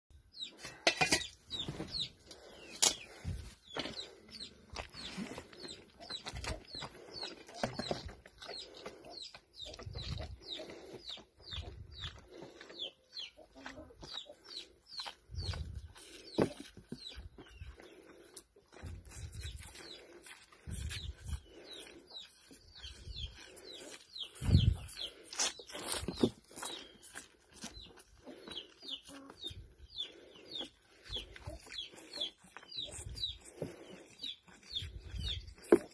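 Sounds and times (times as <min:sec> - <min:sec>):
birds chirping: 0:00.1 - 0:35.9.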